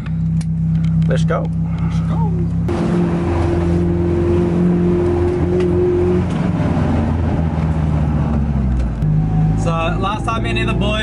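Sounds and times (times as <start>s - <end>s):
car engine running from cabin: 0.0s - 11.0s
steady higher engine tone: 0.0s - 11.0s.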